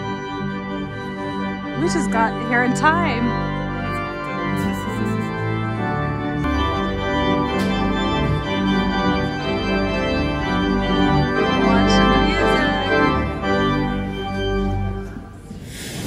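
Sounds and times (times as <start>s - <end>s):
pipe organ playing chords: 0.0s - 15.5s.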